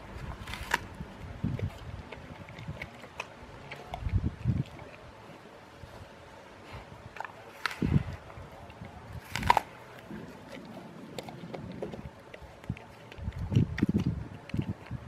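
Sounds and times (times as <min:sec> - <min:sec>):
dog crunching an apple: 0:00.0 - 0:15.0.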